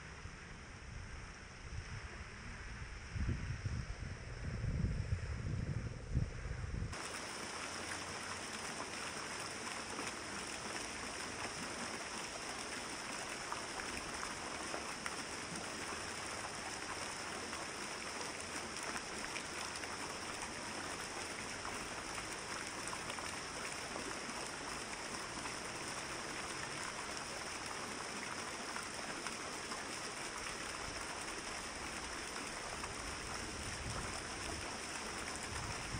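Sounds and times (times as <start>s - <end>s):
falling water splashing: 6.9s - 35.9s.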